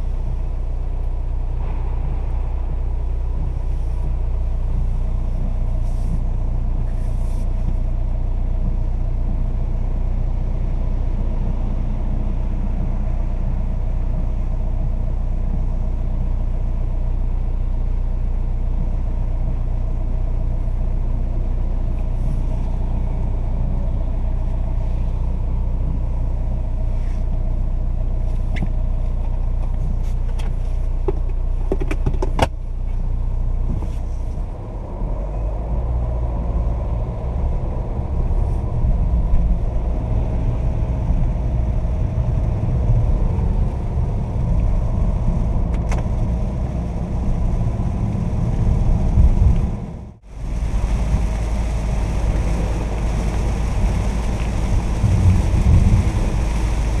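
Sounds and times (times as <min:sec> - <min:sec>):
diesel engine idling: 0:00.0 - 0:31.7, 0:32.5 - 0:57.0.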